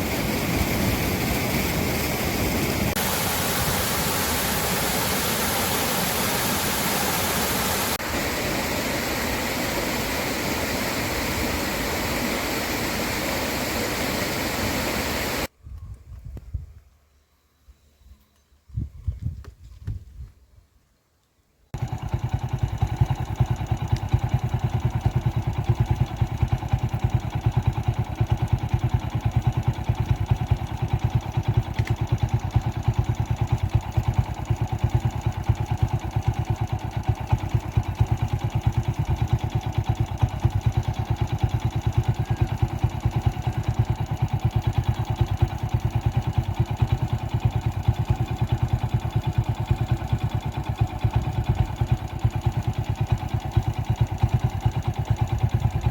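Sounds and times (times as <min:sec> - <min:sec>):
engine running with fast beat: 0:00.0 - 0:15.5, 0:21.7 - 0:55.9.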